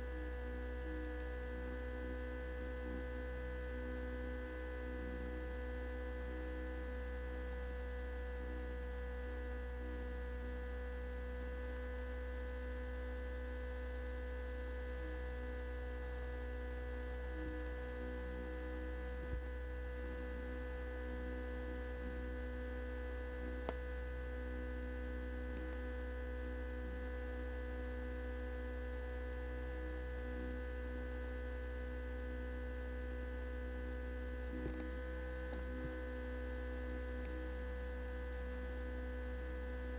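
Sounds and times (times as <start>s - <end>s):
constant whining tones: 0.0s - 39.9s
electrical hum: 0.0s - 39.9s.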